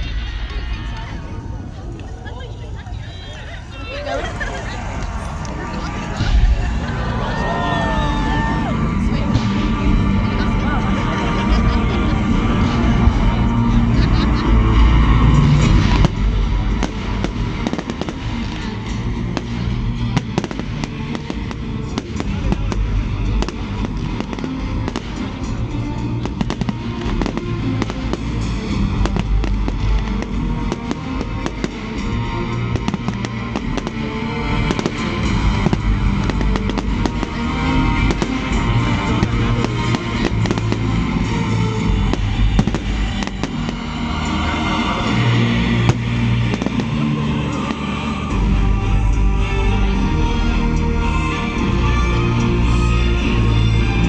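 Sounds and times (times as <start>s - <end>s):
loud music: 3.8s - 54.0s
fireworks bangs and crackling: 4.4s - 49.2s.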